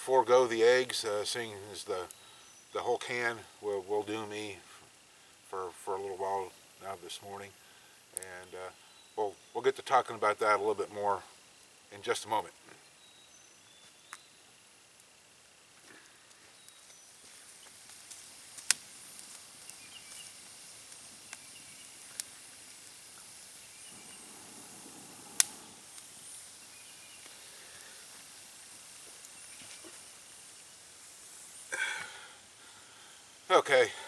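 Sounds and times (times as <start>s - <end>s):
campfire hissing and crackling: 0.0s - 34.0s
fire popping: 0.0s - 34.0s.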